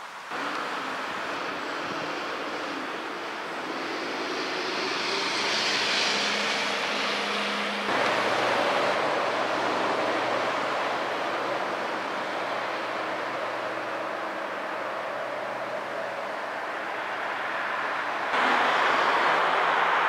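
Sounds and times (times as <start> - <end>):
steady traffic rushing: 0.0 - 20.0
vehicle passing: 0.3 - 20.0.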